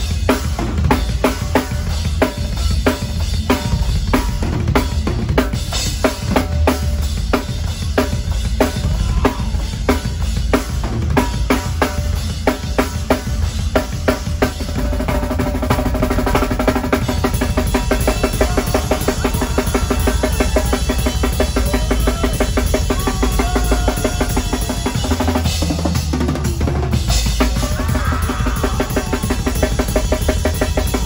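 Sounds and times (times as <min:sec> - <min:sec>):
drum kit played fast: 0:00.0 - 0:31.0
sustained band instruments: 0:00.0 - 0:31.0.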